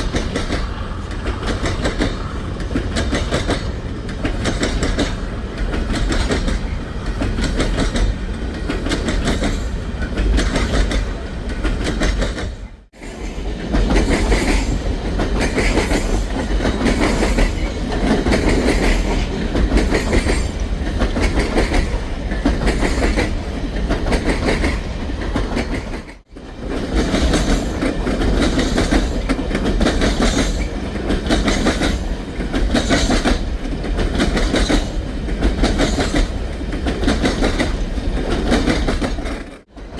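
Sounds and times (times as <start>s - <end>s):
rolling train rumbling: 0.0s - 39.9s
train wheels clicking over rail joints: 0.0s - 39.9s.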